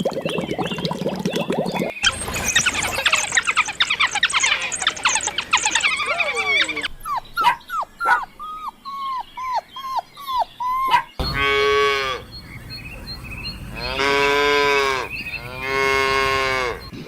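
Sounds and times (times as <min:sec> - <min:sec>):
puppies whimpering and yelping: 0:02.1 - 0:17.0.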